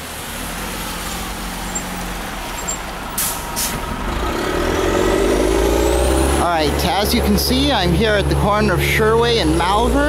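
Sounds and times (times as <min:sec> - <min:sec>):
heavy vehicle engine rumbling: 0:00.0 - 0:10.0.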